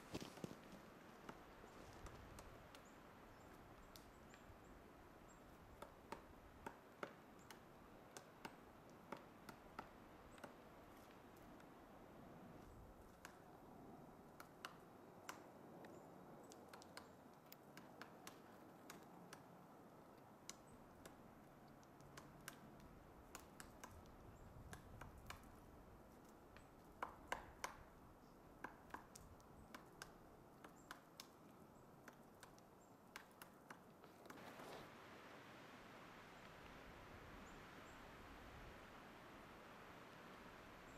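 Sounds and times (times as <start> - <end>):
woodpecker pecking on wood: 1.1 - 11.7, 12.5 - 34.7.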